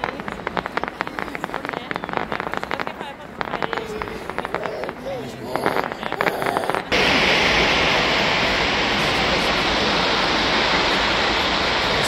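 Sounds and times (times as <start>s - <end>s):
firework crackles: 0.0s - 12.0s
loud steady firework hiss: 0.0s - 12.0s.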